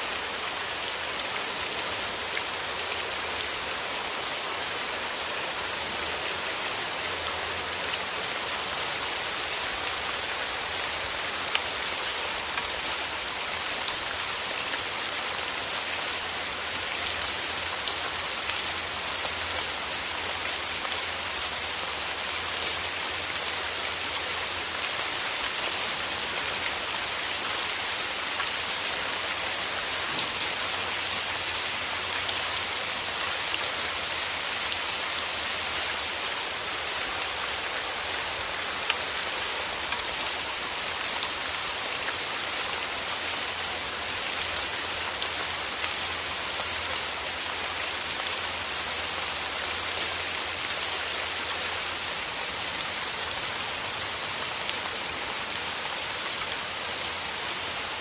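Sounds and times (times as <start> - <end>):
raindrops ticking on surfaces: 0.0 - 58.0
steady rain hiss: 0.0 - 58.0.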